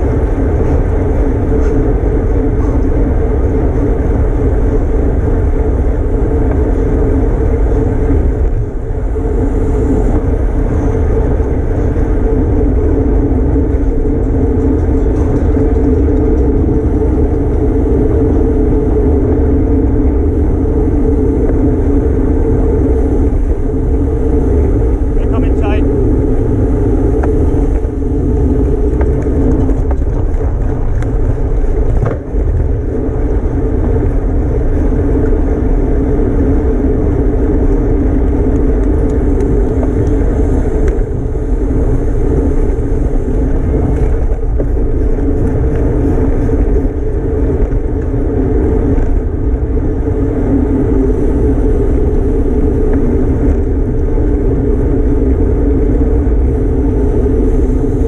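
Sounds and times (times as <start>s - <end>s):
low drone: 0.0s - 58.0s
wind rushing over microphone: 0.0s - 58.0s.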